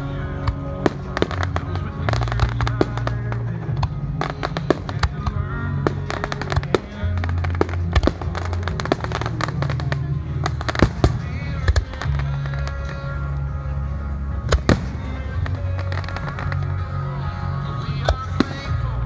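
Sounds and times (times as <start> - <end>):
music with heavy bass: 0.0 - 19.0
fireworks bangs and crackles: 0.4 - 13.0, 14.4 - 17.2, 17.9 - 19.0.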